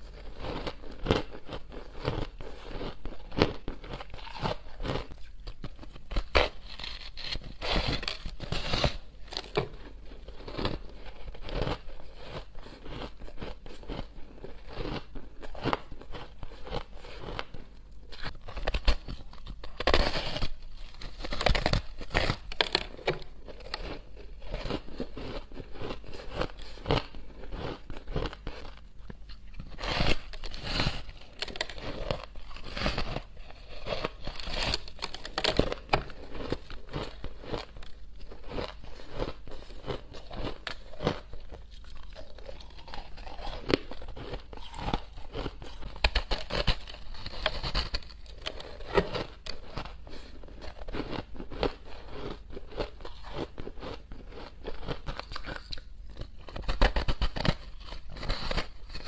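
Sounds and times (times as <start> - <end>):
crunching and chewing ice: 0.0 - 59.0.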